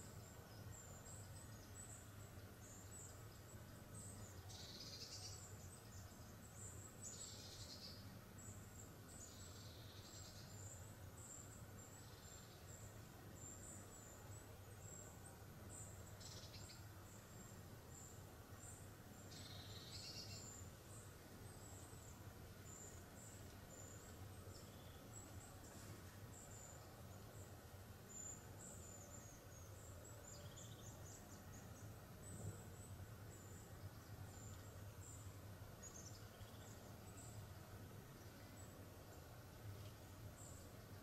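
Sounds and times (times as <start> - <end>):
low steady hum: 0.0 - 41.0
small birds chirping: 0.0 - 41.0.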